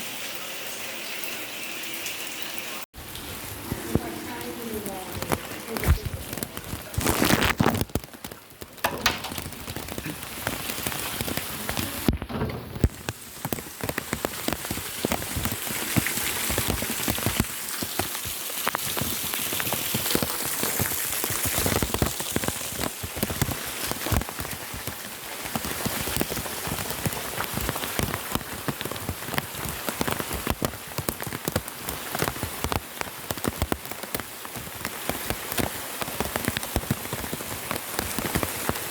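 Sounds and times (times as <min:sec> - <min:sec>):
steady rain hiss: 0:02.9 - 0:12.2, 0:12.8 - 0:38.9
raindrops ticking: 0:03.0 - 0:38.9.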